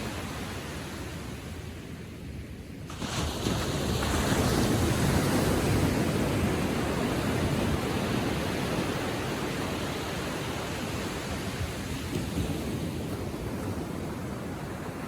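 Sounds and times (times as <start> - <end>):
waves washing up beach: 0.0 - 15.0.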